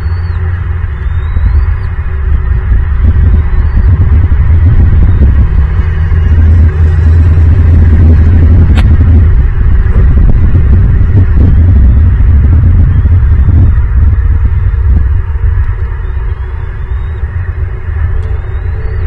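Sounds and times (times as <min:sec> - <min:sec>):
low rumbling hum: 0:00.0 - 0:19.0.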